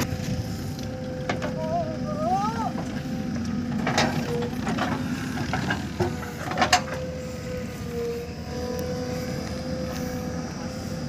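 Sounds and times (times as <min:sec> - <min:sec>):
diesel engine running: 0:00.0 - 0:11.0
high whine: 0:00.0 - 0:11.0.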